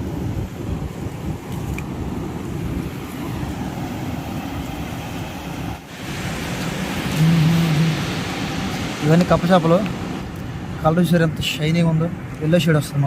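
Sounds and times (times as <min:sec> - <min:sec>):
surf at shore: 0:00.0 - 0:13.0
wind rumbling on microphone: 0:00.0 - 0:13.0.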